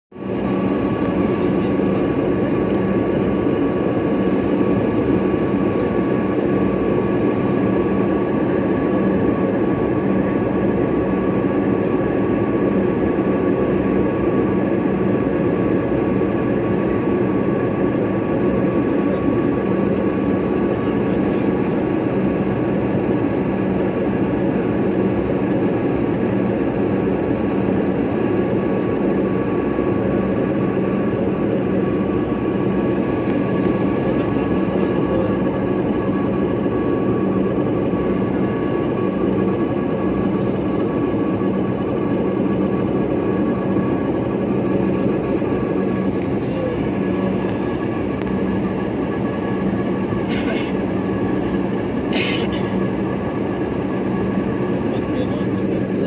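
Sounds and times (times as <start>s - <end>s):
airliner cabin engine noise: 0.1s - 56.0s
high constant whine tones: 0.2s - 56.0s.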